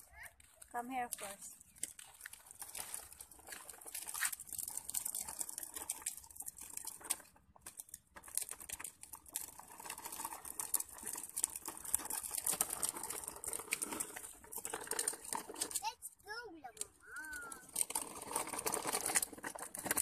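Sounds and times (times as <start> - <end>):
plastic wheels rattling over asphalt: 0.0 - 20.0.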